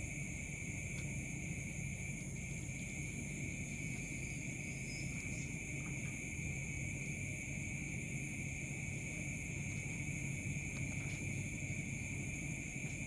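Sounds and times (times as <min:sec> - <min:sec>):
crickets chirping: 0:00.0 - 0:13.0
low continuous hum: 0:00.0 - 0:13.0.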